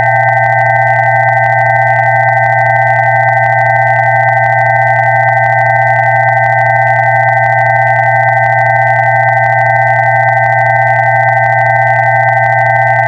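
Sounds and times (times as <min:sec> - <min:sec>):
steady electronic pure tones: 0:00.0 - 0:13.0.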